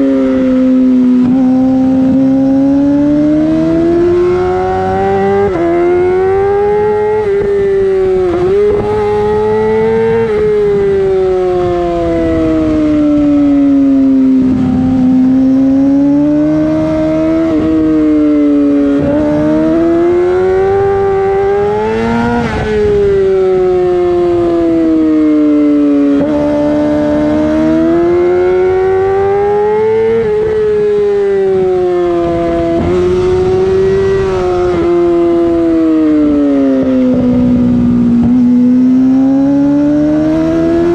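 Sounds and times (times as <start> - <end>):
motorcycle engine revving high: 0.0 - 40.9.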